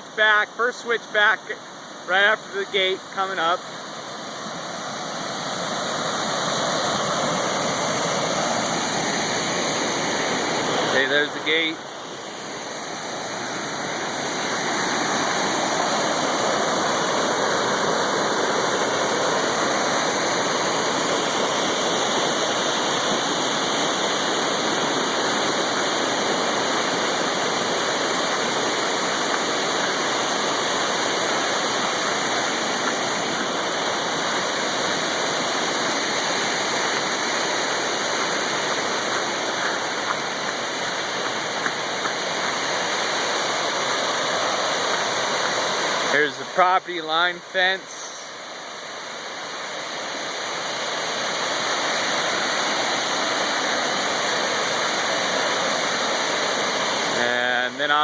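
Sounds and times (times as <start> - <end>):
flood water rushing: 0.0 - 58.0.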